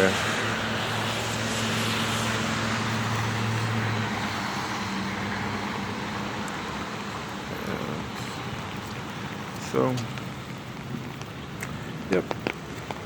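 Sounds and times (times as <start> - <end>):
rain hiss on wet road: 0.0 - 13.0
vehicle engine humming: 0.0 - 13.0.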